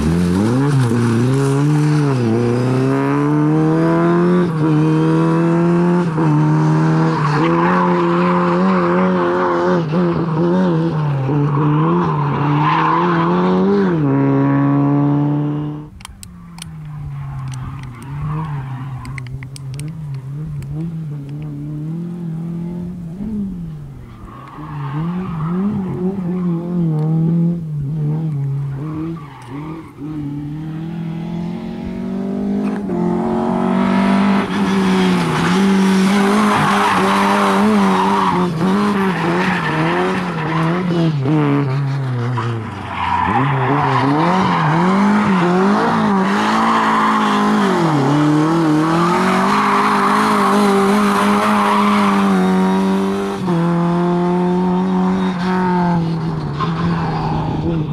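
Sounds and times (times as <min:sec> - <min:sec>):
car engine revving hard: 0:00.0 - 0:15.9, 0:25.0 - 0:41.8, 0:43.0 - 0:57.9.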